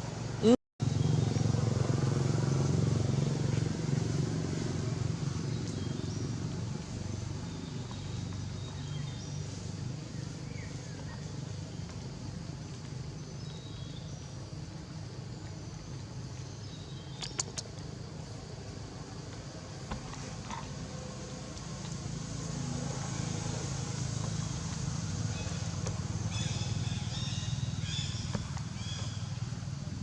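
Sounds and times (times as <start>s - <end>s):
vehicle engine running: 0.1s - 30.0s.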